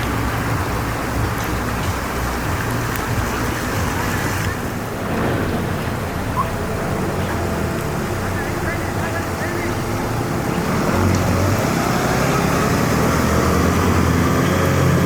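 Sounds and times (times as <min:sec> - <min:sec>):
outboard motor running: 0:00.0 - 0:15.0
rushing hiss of water: 0:00.0 - 0:15.0.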